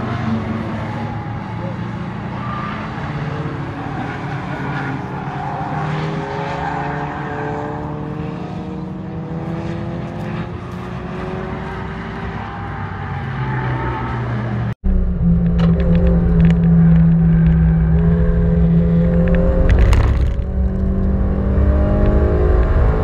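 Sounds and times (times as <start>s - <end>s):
race cars passing at speed: 0.0s - 23.0s.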